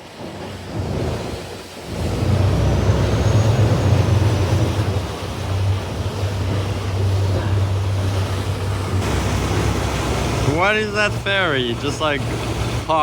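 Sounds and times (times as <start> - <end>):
wind and water hiss: 0.0 - 13.0
ferry engines droning: 1.9 - 13.0.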